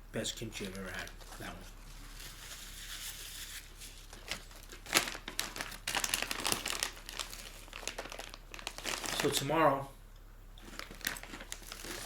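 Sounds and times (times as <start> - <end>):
plastic packaging crackling: 0.6 - 9.6, 10.6 - 12.0.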